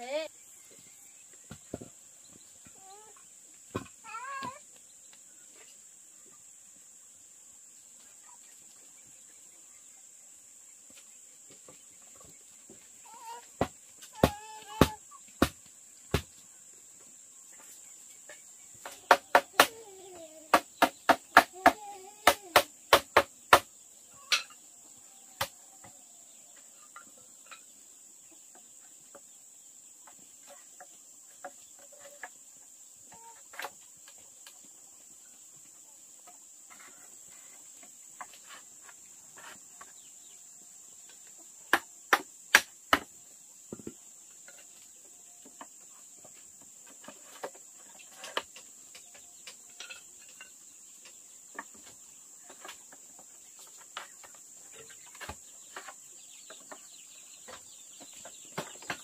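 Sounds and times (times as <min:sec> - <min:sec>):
crickets droning: 0:00.0 - 0:59.0.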